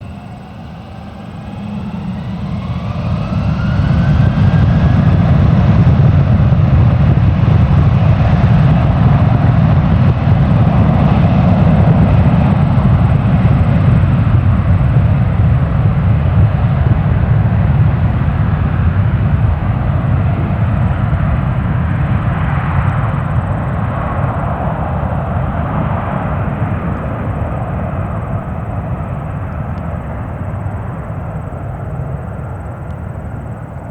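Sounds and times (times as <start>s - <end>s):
jet engines roaring: 0.0s - 33.9s
rising engine whine: 0.0s - 33.9s.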